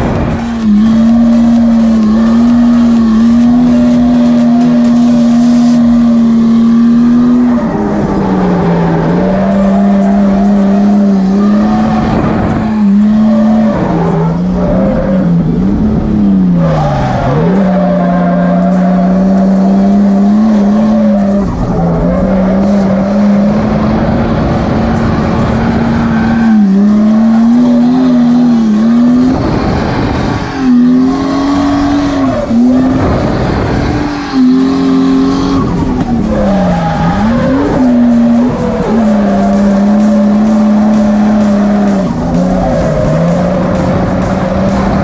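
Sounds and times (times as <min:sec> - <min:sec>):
turbocharged car engine revving: 0:00.0 - 0:45.0.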